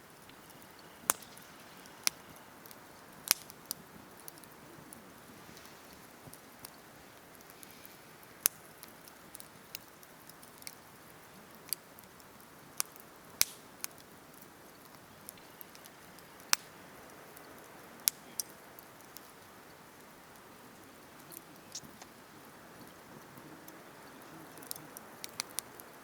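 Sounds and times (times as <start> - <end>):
campfire crackling and popping: 0.0 - 26.0
faint steady hiss: 0.0 - 26.0.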